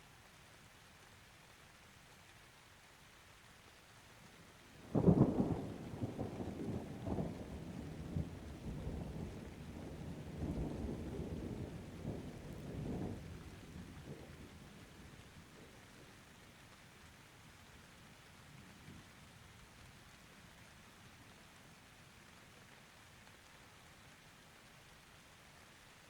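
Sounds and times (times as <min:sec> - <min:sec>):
light rain: 0:00.0 - 0:26.0.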